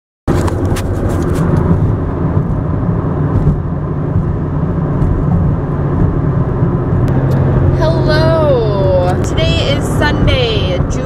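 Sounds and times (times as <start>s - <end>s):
car cabin road and engine rumble: 0.3s - 11.0s.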